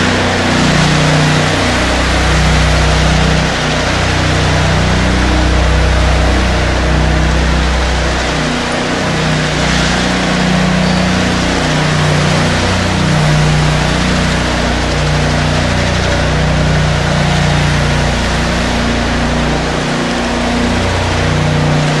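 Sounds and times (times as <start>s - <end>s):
power trowel engine hum: 0.0s - 22.0s.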